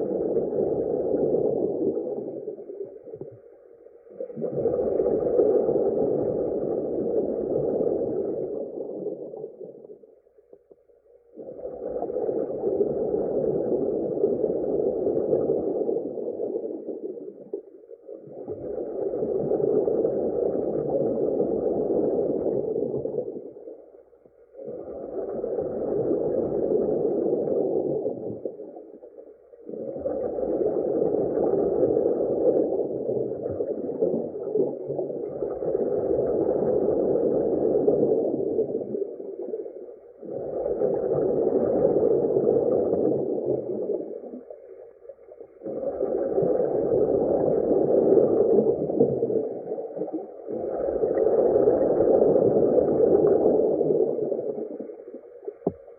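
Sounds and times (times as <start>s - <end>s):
muffled underwater gurgling: 0.0s - 10.2s, 11.2s - 55.9s.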